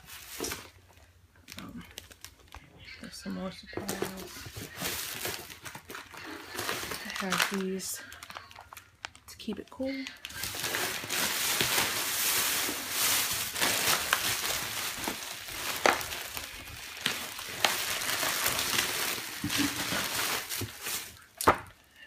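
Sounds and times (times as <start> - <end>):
plastic packaging rustling: 0.0 - 21.9.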